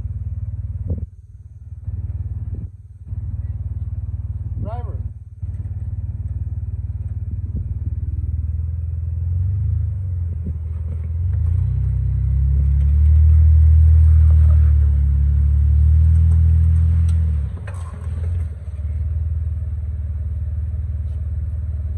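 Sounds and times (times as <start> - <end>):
engine rumbling at low revs: 0.0 - 21.9.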